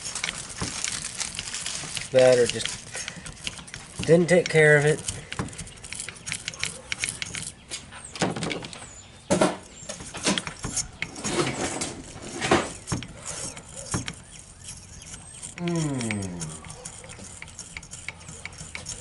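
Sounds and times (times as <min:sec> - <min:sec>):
metal clicking against metal: 0:00.0 - 0:07.9, 0:09.6 - 0:19.0
hand tools scraping metal: 0:00.0 - 0:19.0.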